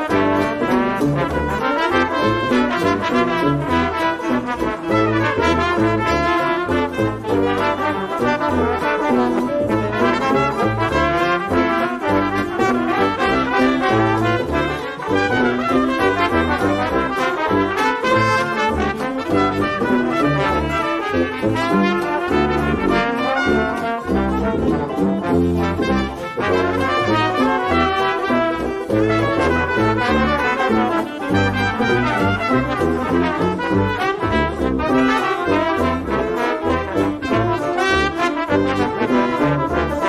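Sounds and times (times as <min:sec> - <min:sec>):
brass instrumental music: 0:00.0 - 0:40.0.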